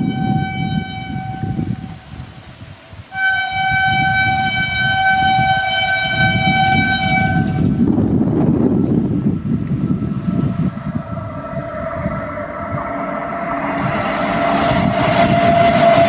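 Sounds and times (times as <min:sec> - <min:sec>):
locomotive horn blast: 0:00.0 - 0:02.2, 0:03.1 - 0:16.0
train rumbling: 0:00.0 - 0:16.0.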